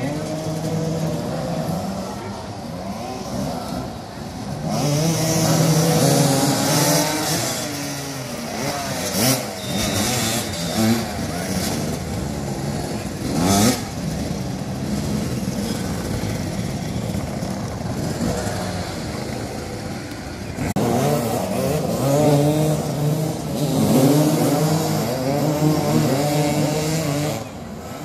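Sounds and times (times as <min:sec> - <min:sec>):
motorcycles revving and idling: 0:00.0 - 0:28.0.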